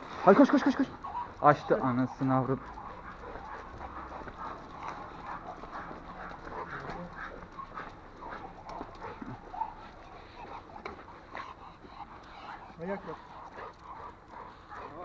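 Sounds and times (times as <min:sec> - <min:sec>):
dog paws tapping on pavement: 0:00.0 - 0:15.0.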